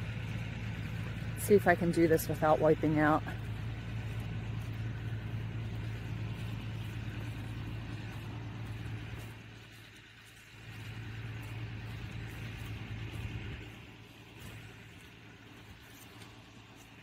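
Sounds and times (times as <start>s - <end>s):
footsteps on mud: 0.0s - 17.0s
steady low hum: 0.0s - 17.0s.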